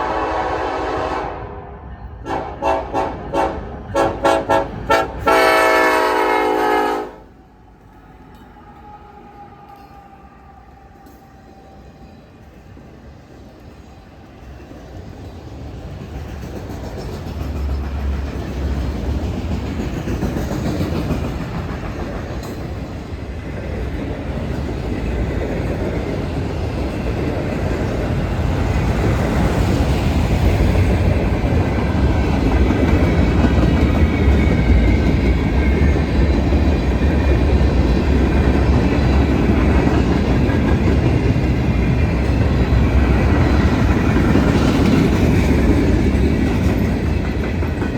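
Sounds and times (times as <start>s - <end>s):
freight train rumbling past: 0.0s - 47.9s
wheels clacking on rails: 7.8s - 47.9s.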